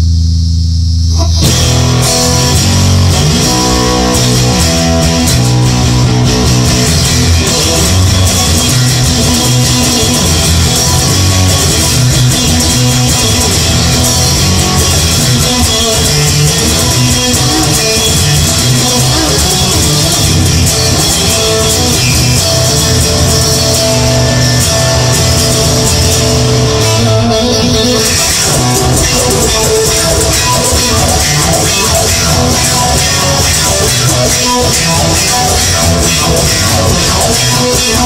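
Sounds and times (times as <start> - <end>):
rock song with electric guitar: 1.1 - 38.0.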